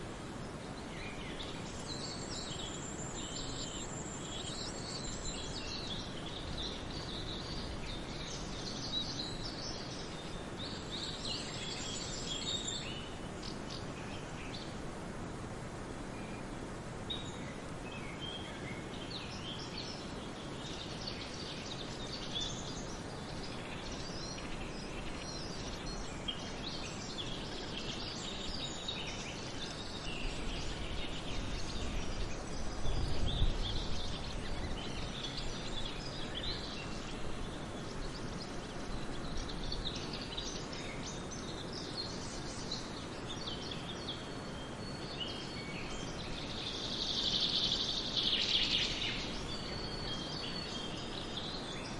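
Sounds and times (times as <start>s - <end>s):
outdoor background hiss: 0.0s - 51.9s
songbirds singing and chirping: 0.0s - 51.9s.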